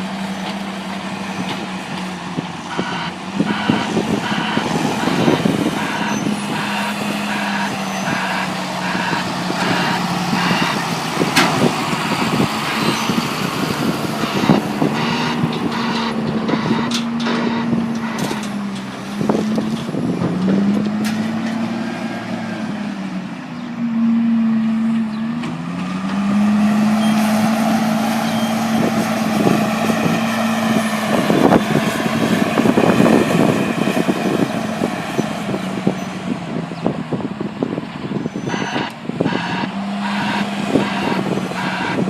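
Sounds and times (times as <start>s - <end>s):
farm machinery engine revving: 0.0s - 42.0s.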